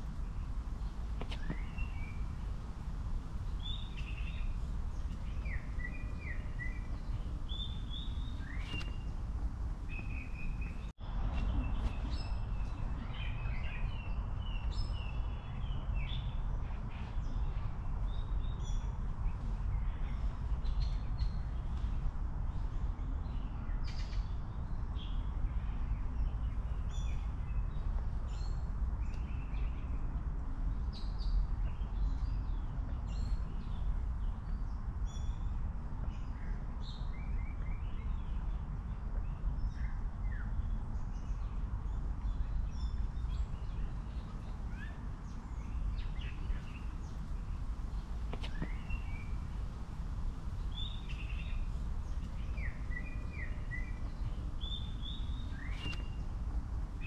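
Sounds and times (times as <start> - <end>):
small birds chirping: 0.0 - 30.1, 30.7 - 57.0.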